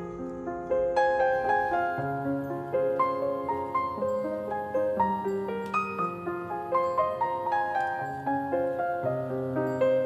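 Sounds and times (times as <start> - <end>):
gentle piano melody: 0.0 - 10.0.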